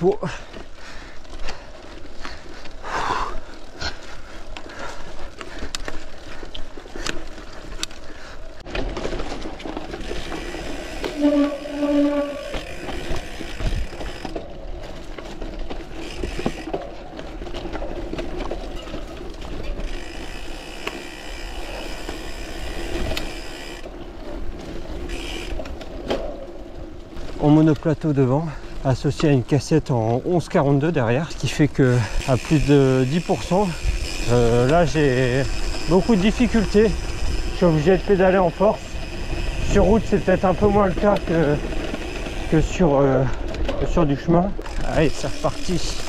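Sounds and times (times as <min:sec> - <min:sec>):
bicycle clicking and rattling: 0:00.0 - 0:46.0.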